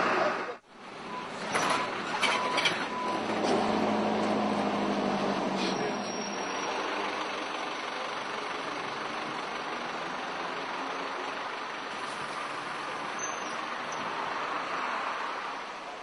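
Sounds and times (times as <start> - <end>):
street traffic hiss and rumble: 0.0 - 16.0.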